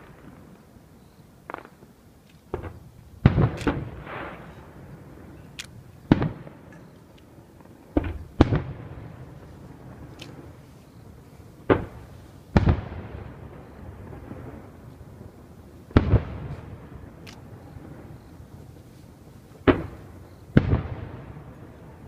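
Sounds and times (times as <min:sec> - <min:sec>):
firework shells booming: 0:01.4 - 0:10.6, 0:11.2 - 0:15.0, 0:15.9 - 0:18.3, 0:19.6 - 0:22.0.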